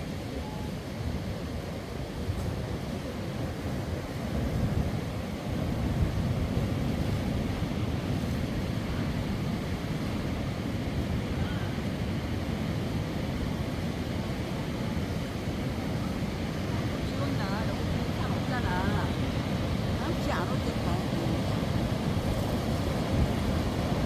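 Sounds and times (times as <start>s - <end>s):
sea waves washing on shore: 0.0s - 24.0s
wind buffeting microphone: 0.0s - 24.0s.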